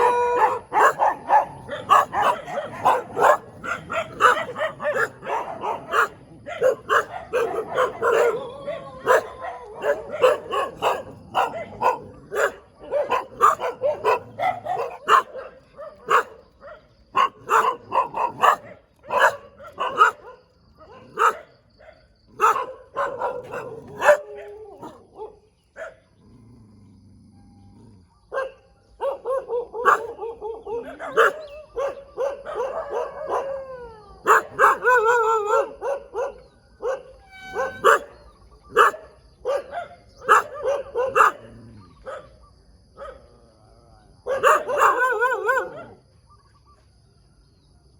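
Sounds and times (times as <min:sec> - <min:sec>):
dogs howling: 0:00.0 - 0:21.5, 0:22.3 - 0:25.5, 0:26.2 - 0:42.3, 0:44.3 - 0:46.0
dogs barking: 0:00.0 - 0:26.2, 0:28.2 - 0:43.3, 0:44.2 - 0:46.4.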